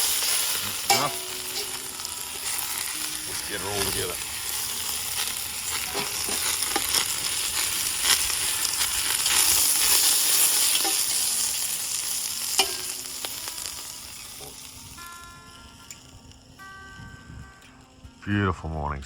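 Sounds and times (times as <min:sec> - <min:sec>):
ribs sizzling in a hot pan: 0:00.0 - 0:16.8.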